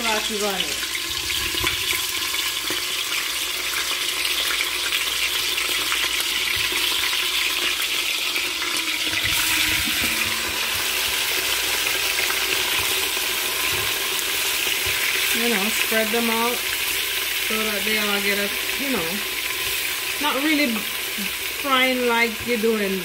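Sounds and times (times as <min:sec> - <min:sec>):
meat sizzling in hot oil: 0:00.0 - 0:23.0.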